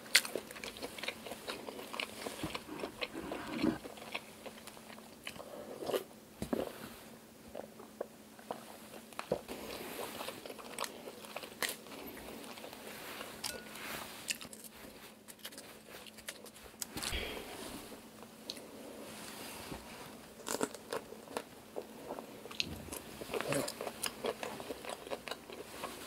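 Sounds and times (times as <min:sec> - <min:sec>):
chewing and crunching shrimp: 0:00.0 - 0:06.7, 0:07.5 - 0:17.4, 0:20.2 - 0:26.0.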